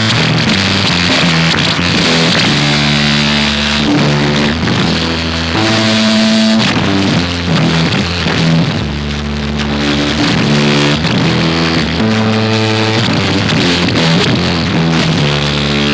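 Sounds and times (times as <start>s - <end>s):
dense music with low notes: 0.0s - 15.9s.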